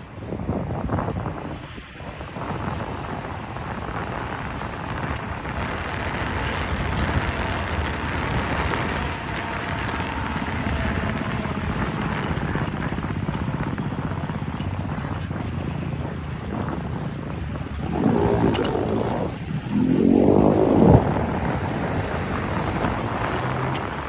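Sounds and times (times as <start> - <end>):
steady traffic noise: 0.0 - 24.0
wind on microphone: 0.0 - 24.0.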